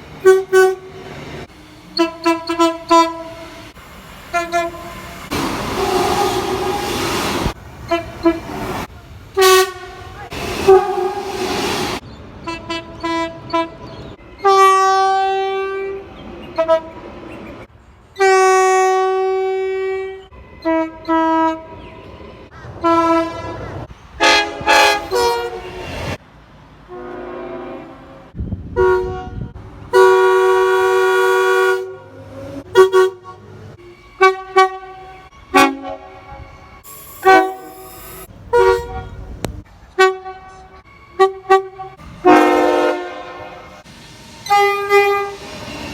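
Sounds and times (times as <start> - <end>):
train horn toots and blasts: 0.2 - 1.1, 1.9 - 3.7, 4.3 - 8.6, 9.4 - 17.0, 18.2 - 21.8, 22.8 - 26.2, 26.9 - 43.8, 44.4 - 45.4.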